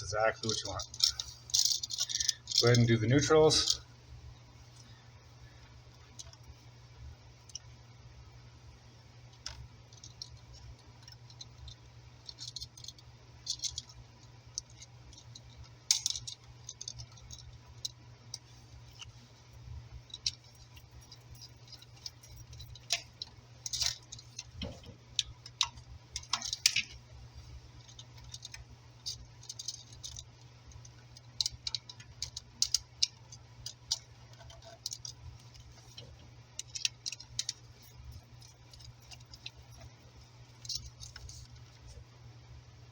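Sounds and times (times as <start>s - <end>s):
light metallic rattles: 0.0s - 3.9s, 9.3s - 42.6s
steady low hum: 0.0s - 42.9s.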